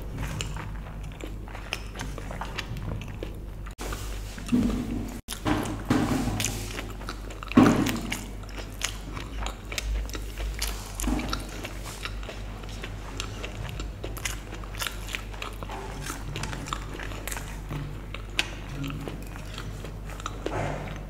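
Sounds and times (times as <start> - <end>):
chewing with wet mouth clicks: 0.0 - 4.6, 6.4 - 21.0.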